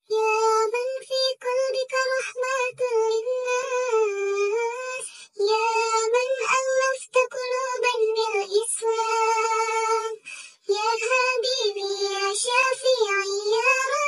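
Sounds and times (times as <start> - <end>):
child singing: 0.0 - 14.0.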